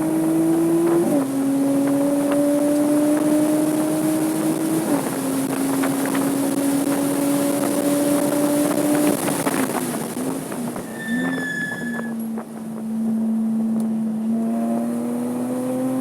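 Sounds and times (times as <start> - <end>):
car engine running hard: 0.0 - 11.0, 12.2 - 16.0
wind noise: 0.0 - 13.2.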